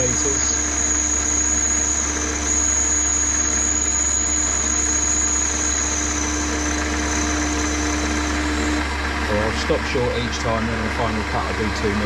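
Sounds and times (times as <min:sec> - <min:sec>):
metal lathe running with whine: 0:00.0 - 0:12.0.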